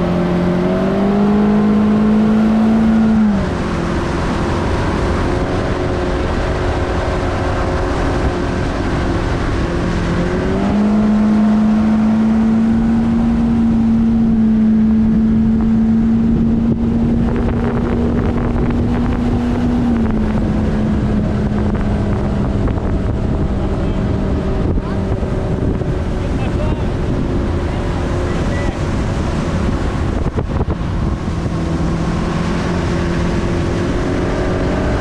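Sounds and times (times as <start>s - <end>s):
outboard motor running: 0.0s - 35.0s
wind and water rushing: 0.0s - 35.0s.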